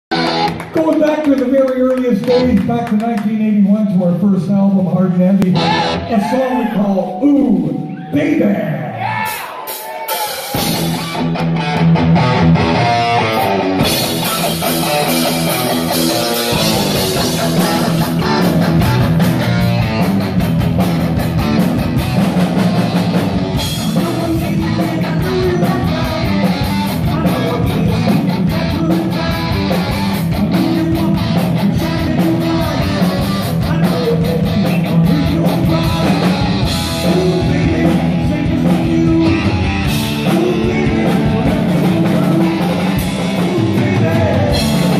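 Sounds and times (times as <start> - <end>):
bass guitar: 0.0 - 44.9
electric guitar riff: 0.1 - 0.8, 5.4 - 7.9, 10.3 - 44.9
drum kit: 0.1 - 7.7, 8.5 - 44.9.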